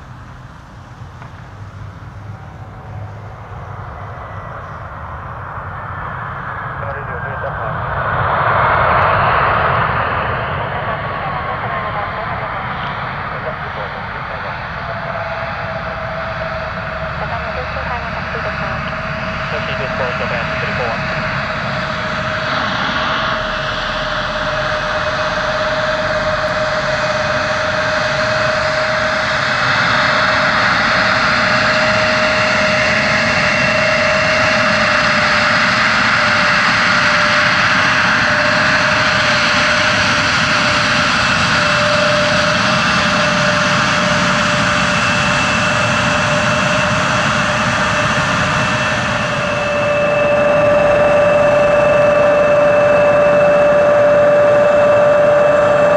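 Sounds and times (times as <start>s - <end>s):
jet engines rushing and whining: 0.0s - 55.9s.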